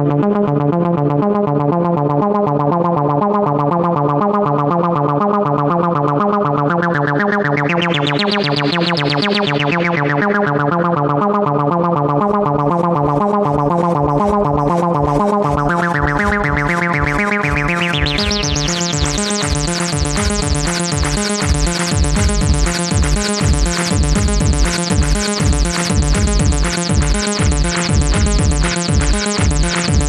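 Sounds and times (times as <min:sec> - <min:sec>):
synthesizer looping note pattern: 0:00.2 - 0:30.0.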